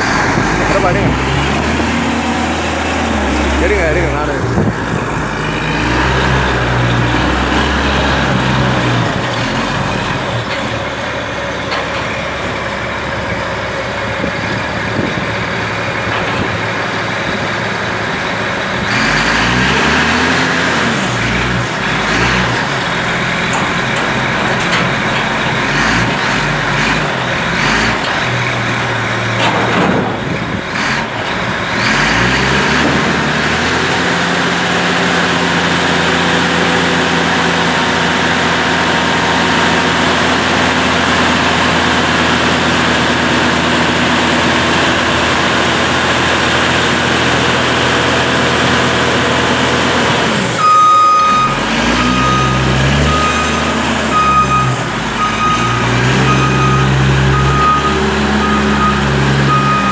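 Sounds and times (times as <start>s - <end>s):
diesel engine revving under load: 0.0s - 59.9s.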